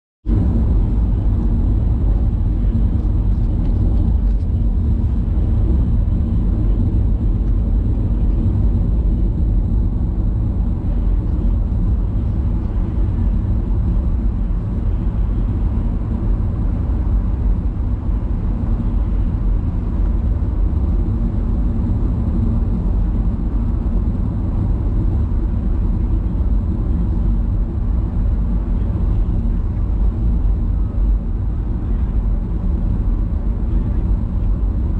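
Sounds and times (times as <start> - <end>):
vehicle engine rumble: 0.3 - 34.9.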